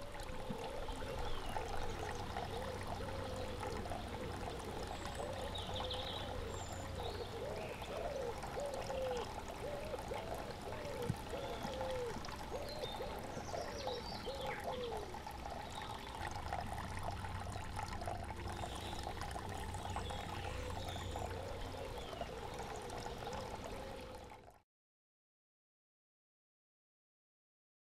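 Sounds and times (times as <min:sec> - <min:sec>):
fountain water trickling: 0:00.0 - 0:24.6.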